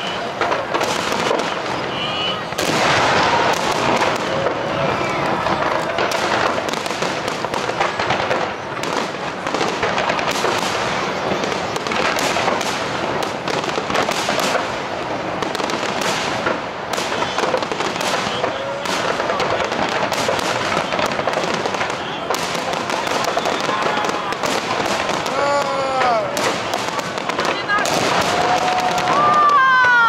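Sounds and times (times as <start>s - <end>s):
firework shells bursting: 0.0s - 30.0s.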